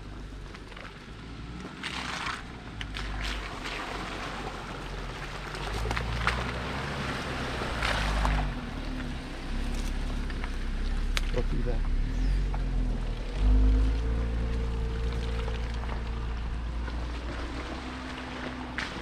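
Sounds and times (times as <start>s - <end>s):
vehicle engine running slowly: 0.0s - 19.0s.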